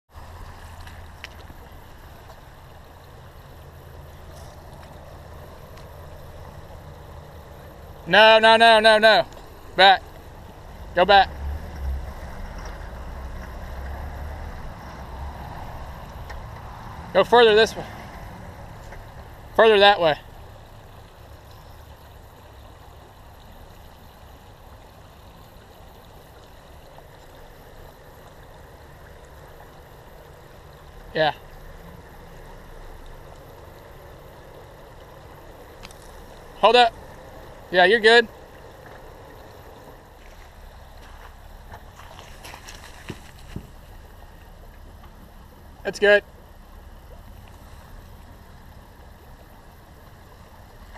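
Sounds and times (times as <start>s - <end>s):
creek water trickling: 0.1s - 50.9s.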